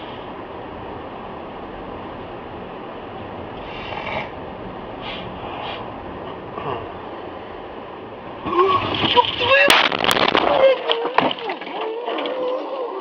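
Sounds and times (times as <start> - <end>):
road and driving noise: 0.0 - 13.0.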